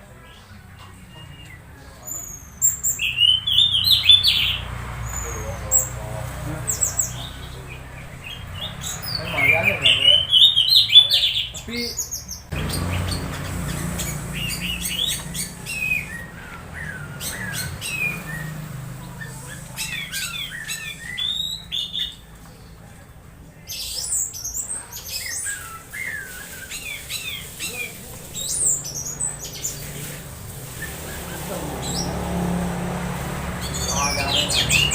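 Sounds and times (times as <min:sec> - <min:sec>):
bird squeaky calls and chirps: 0:01.1 - 0:22.7, 0:23.6 - 0:32.2, 0:33.6 - 0:34.9.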